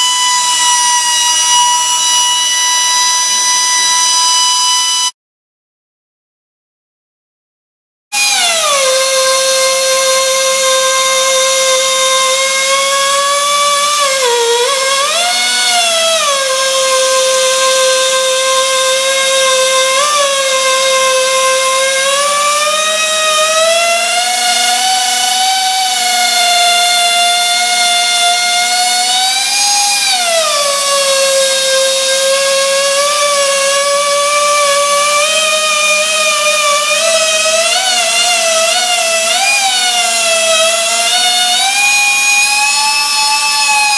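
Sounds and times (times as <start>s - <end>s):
valve grinder motor whining: 0.0s - 5.1s, 8.2s - 43.9s.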